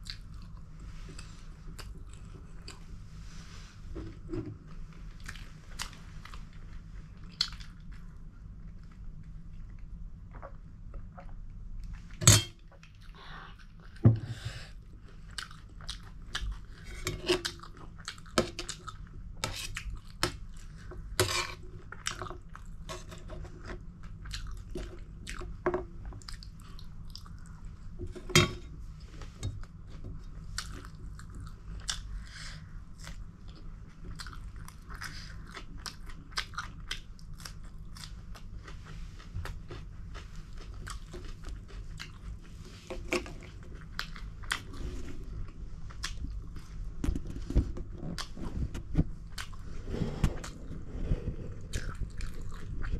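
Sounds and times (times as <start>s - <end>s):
chewing and crunching food: 0.0s - 3.1s, 4.5s - 14.0s, 14.8s - 52.9s.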